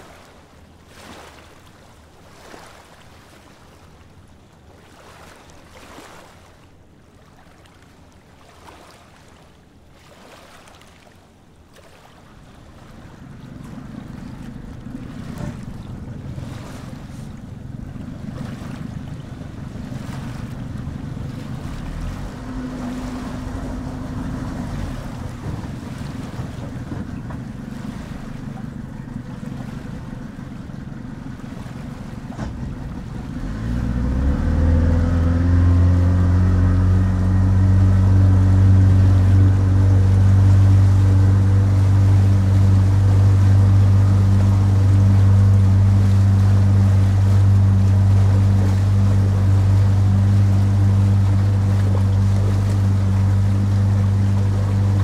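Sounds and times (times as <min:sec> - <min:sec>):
boat engine hum: 0:00.0 - 0:55.0
surf: 0:00.0 - 0:55.0
wind: 0:00.0 - 0:55.0.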